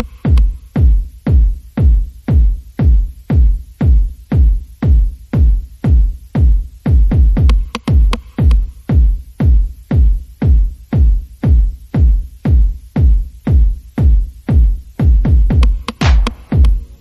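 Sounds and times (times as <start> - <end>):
deep kick drum beating: 0.0 - 17.0
electronic music: 0.0 - 17.0.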